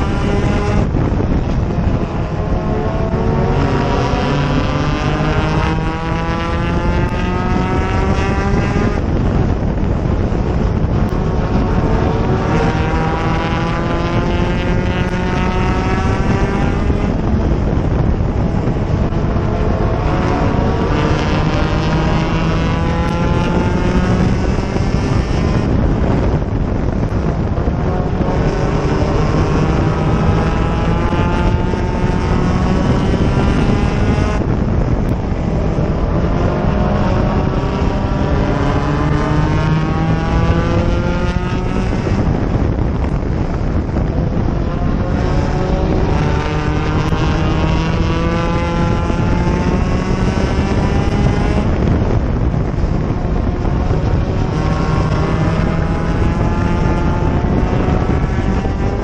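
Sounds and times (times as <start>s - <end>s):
race car engine under hard throttle: 0.0s - 59.0s.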